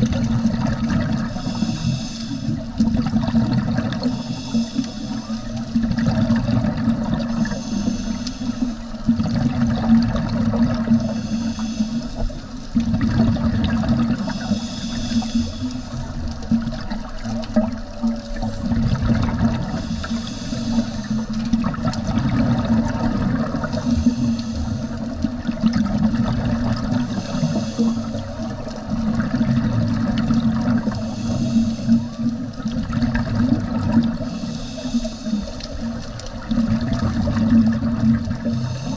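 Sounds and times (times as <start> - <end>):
exhaled bubbles rushing: 0.0 - 38.9
low underwater rumble: 0.0 - 38.9
scuba regulator breathing: 0.0 - 38.9.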